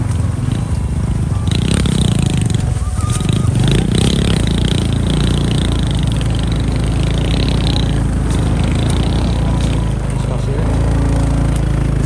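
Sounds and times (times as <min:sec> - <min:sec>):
high wavering buzz: 0:00.0 - 0:11.6
motorcycle engine running: 0:00.0 - 0:12.0.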